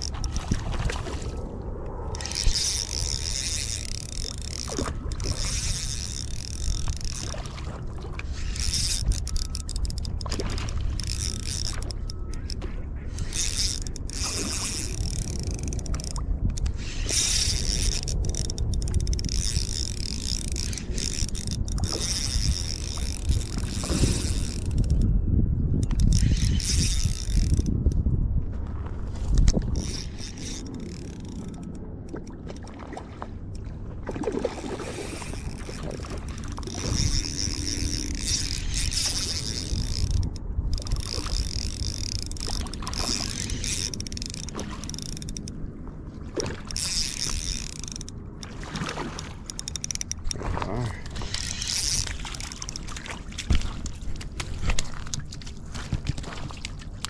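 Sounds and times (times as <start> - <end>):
fishing reel gears whirring: 0.0 - 28.1, 29.3 - 32.7, 33.5 - 56.9
wind rumbling on microphone: 0.0 - 57.0.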